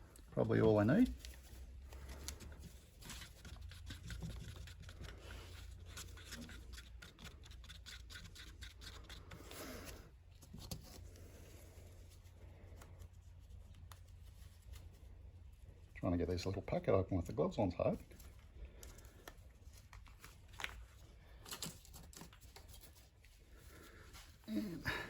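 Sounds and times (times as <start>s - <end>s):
gloved hands scratching and clicking: 0.0s - 15.5s, 18.0s - 24.4s.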